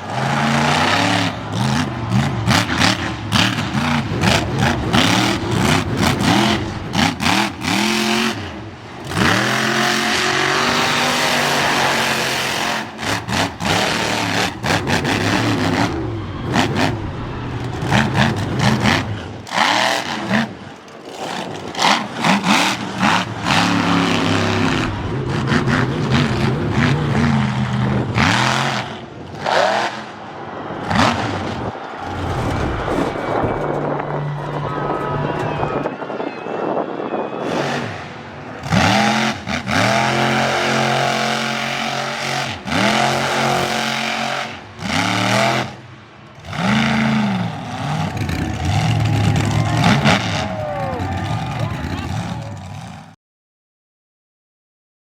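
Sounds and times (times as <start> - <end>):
monster truck engine revving: 0.0 - 36.1, 37.4 - 53.2.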